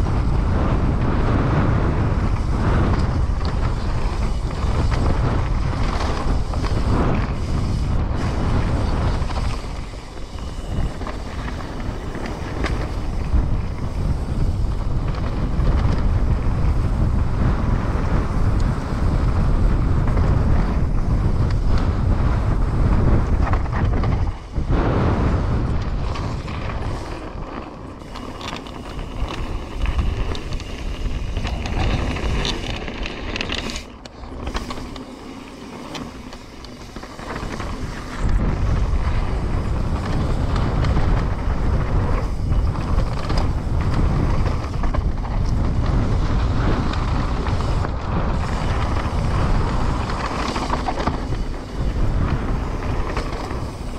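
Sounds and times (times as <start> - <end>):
bike tyre rumble: 0.0 - 53.9
wind buffeting microphone: 0.0 - 53.9
bike frame rattle: 1.9 - 53.9.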